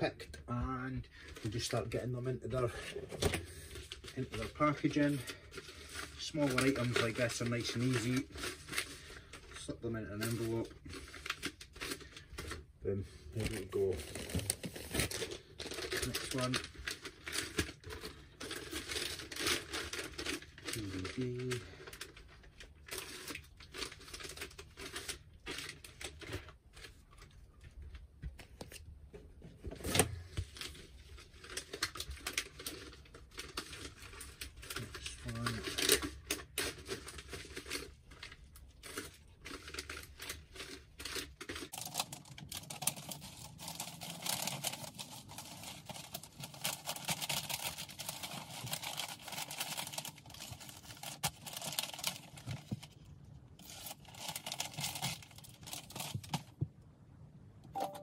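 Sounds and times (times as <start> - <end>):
packaging rustling and crinkling: 0.8 - 28.8, 29.5 - 56.7.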